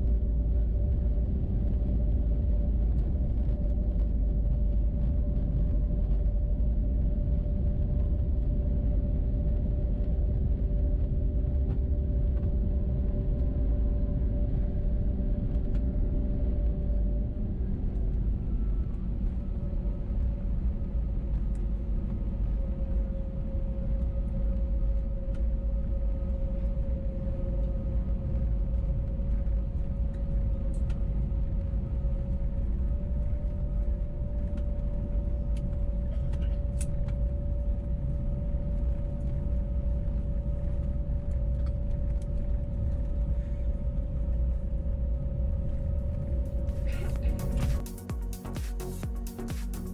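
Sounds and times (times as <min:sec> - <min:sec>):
airplane engines humming: 0:00.0 - 0:49.9.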